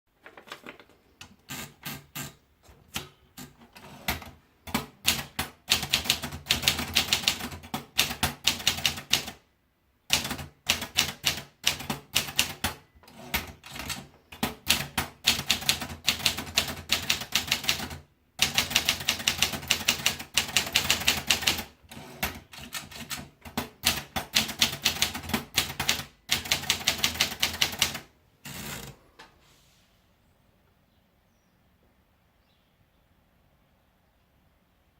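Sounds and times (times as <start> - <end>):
typewriter typing: 0.3 - 9.4, 10.1 - 29.0.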